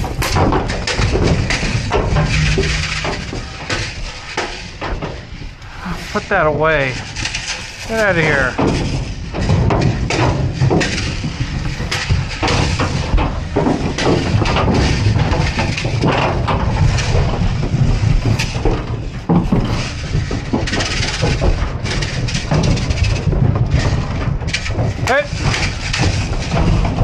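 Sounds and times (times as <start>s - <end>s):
calves knocking in metal trailer: 0.0s - 5.4s, 6.2s - 27.0s.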